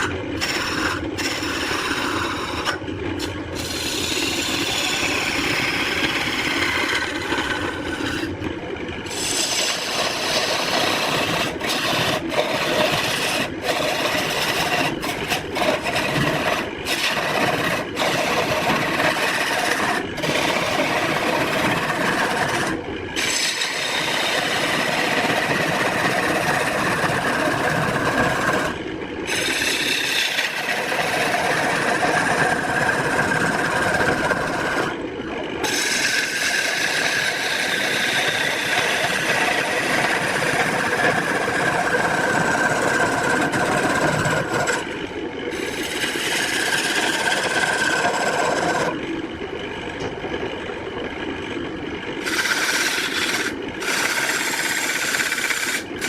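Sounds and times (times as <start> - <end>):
tool rasping wood: 0.0 - 8.4, 9.0 - 35.0, 35.6 - 49.0, 52.2 - 56.0.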